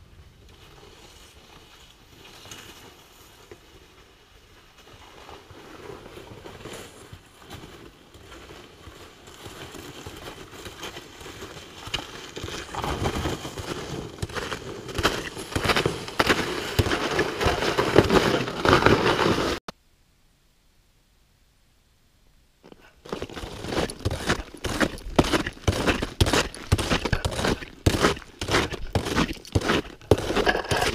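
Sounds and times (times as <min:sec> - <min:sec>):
footsteps crunching in snow: 0:00.6 - 0:19.6, 0:22.6 - 0:30.9.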